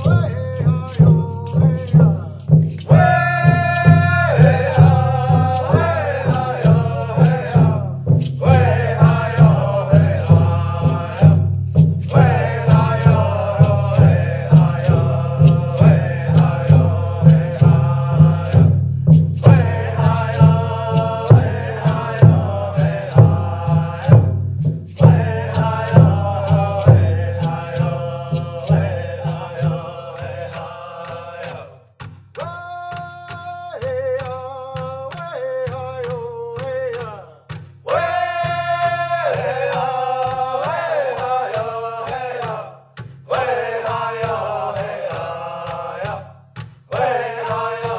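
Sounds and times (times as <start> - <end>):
steady drum beat: 0.0 - 47.9
voices chanting a song: 0.0 - 47.9.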